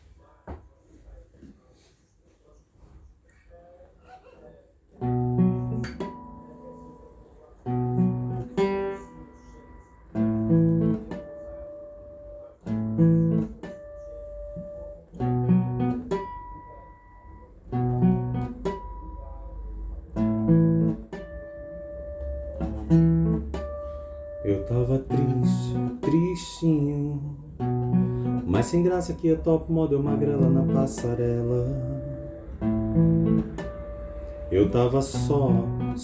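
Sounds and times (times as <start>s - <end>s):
acoustic guitar playing: 4.9s - 36.0s.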